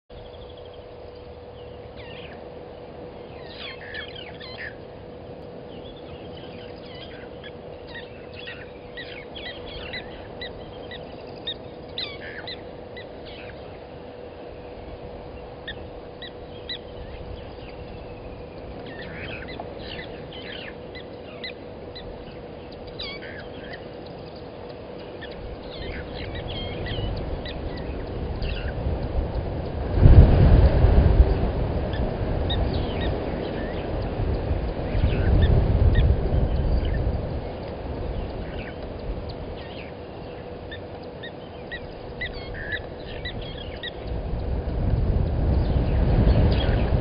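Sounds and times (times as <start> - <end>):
low hum: 0.1 - 47.0
birds chirping and whistling: 0.2 - 2.4, 3.2 - 13.8, 14.6 - 28.8, 31.9 - 34.2, 34.9 - 47.0.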